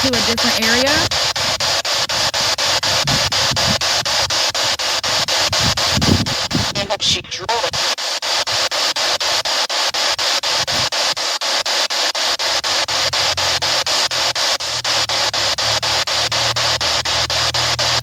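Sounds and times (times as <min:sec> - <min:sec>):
choppy radio static hiss: 0:00.0 - 0:18.0.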